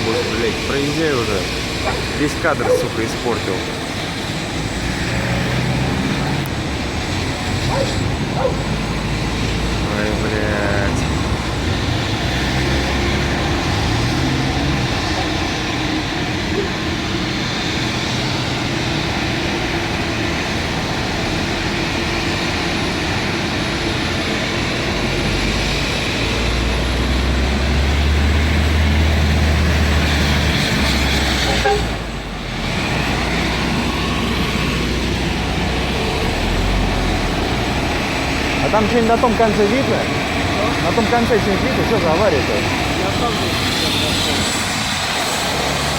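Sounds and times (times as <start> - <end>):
helicopter idling: 0.0 - 45.9.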